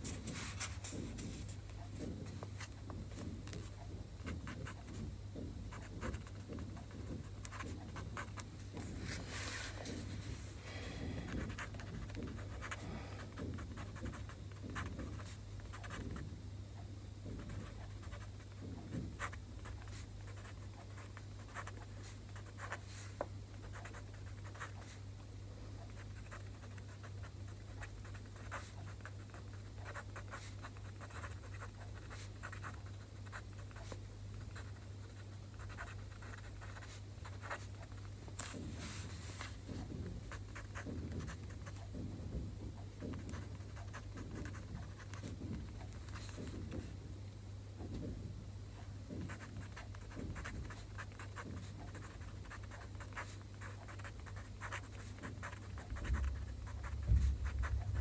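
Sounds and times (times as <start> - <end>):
pen scratching on paper: 0.0 - 5.1, 5.7 - 10.4, 11.1 - 16.2, 17.3 - 25.0, 25.9 - 41.9, 43.0 - 46.8, 49.1 - 58.0
low steady hum: 0.0 - 58.0.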